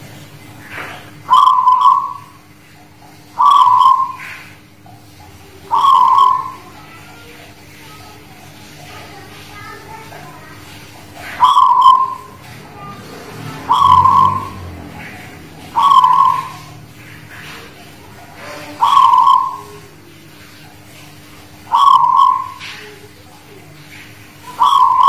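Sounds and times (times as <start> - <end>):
dove cooing: 0.6 - 2.6, 3.2 - 7.5, 10.0 - 25.0.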